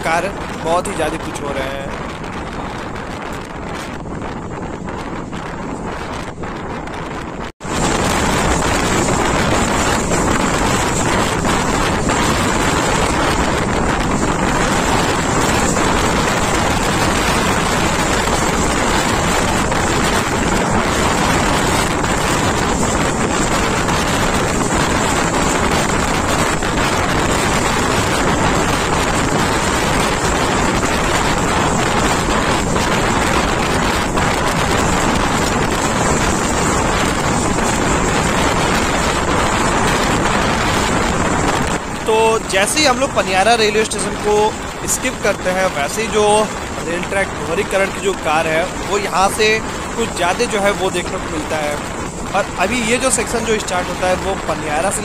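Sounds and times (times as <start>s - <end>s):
train wheels rumbling on rails: 0.0s - 55.0s
wind buffeting microphone: 0.0s - 55.0s.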